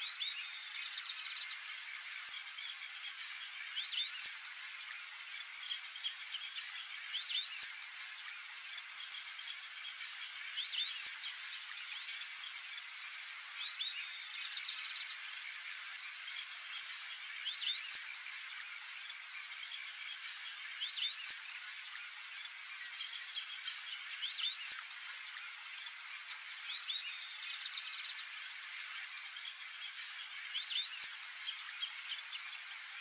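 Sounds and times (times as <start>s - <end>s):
steady high hiss: 0.0s - 33.0s.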